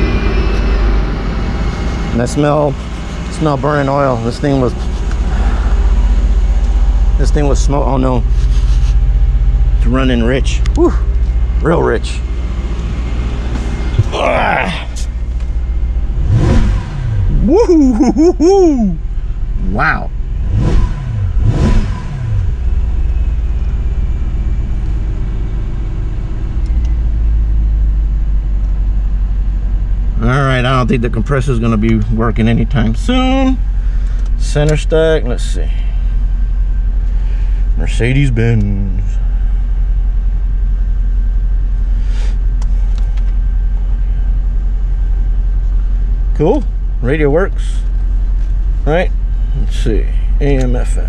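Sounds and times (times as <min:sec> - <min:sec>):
car engine revving and idling: 0:00.0 - 0:51.0.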